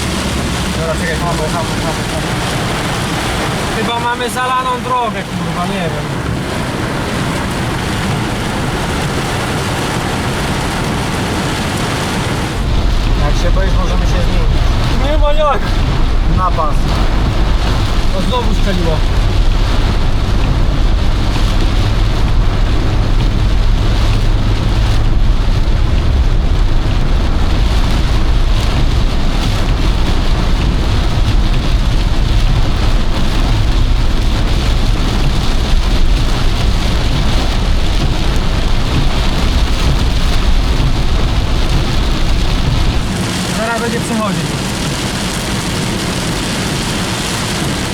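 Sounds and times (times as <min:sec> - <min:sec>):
heavy rain drumming on car roof: 0:00.0 - 0:47.9
low car rumble: 0:00.0 - 0:47.9.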